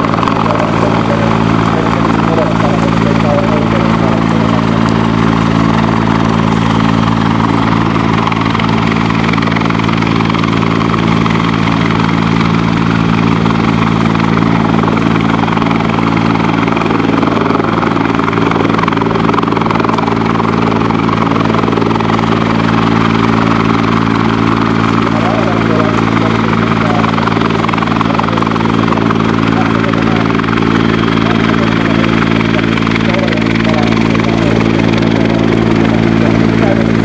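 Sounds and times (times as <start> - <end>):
helicopter hovering: 0.0 - 37.0.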